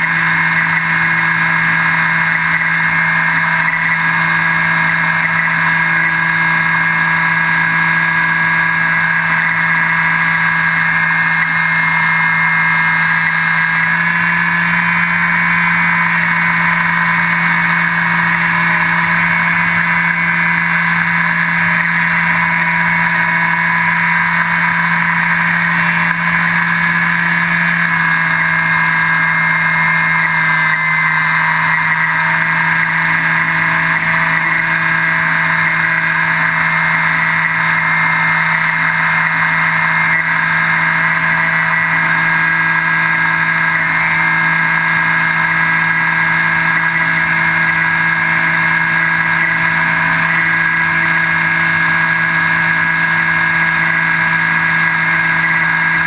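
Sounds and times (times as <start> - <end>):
electric motor and propeller droning: 0.0 - 56.0.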